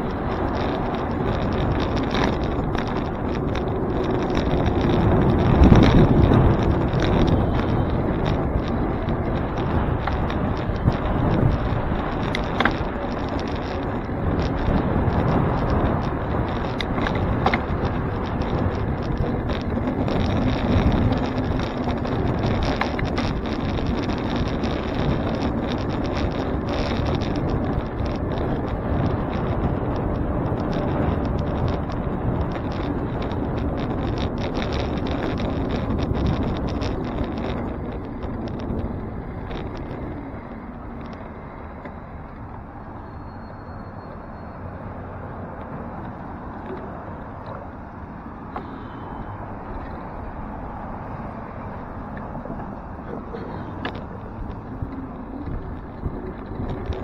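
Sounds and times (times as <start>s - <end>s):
bicycle rattling clicks: 0.0s - 57.0s
city traffic: 0.0s - 57.0s
wind rushing over microphone: 0.0s - 57.0s.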